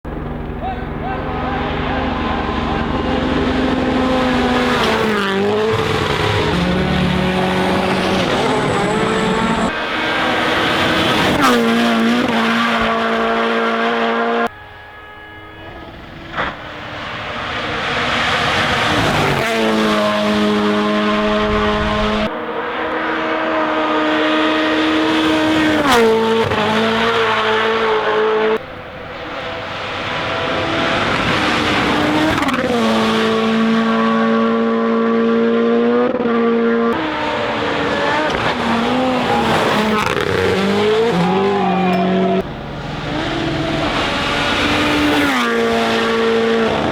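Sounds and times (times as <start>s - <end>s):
rally car engines revving: 0.1s - 15.2s, 15.8s - 46.9s.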